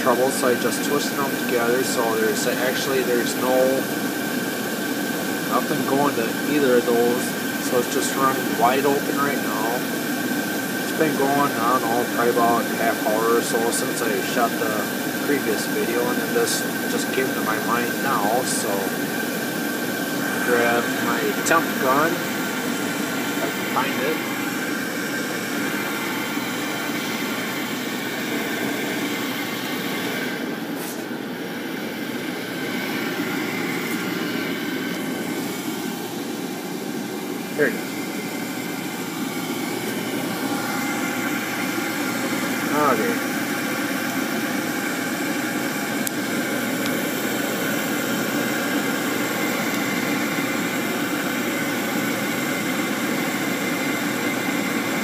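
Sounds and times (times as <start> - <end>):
furnace burner and blower running: 0.0 - 55.0.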